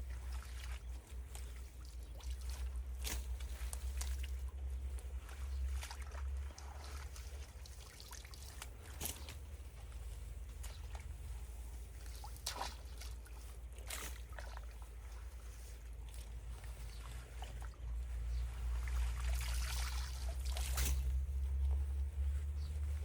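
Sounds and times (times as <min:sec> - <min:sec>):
water splashes: 0:00.0 - 0:21.7
water trickling and dripping: 0:00.0 - 0:22.2
low steady rumble: 0:00.0 - 0:23.0.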